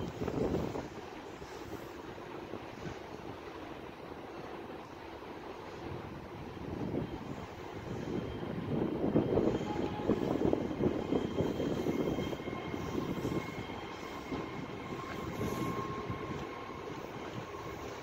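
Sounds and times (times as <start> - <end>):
faint steady tones: 0.0 - 18.0
train rumbling: 0.0 - 18.0.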